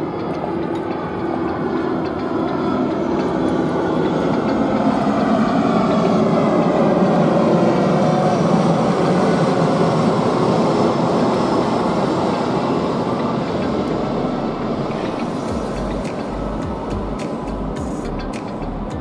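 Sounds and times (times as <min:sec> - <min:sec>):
jet airliner roaring overhead: 0:00.0 - 0:19.0.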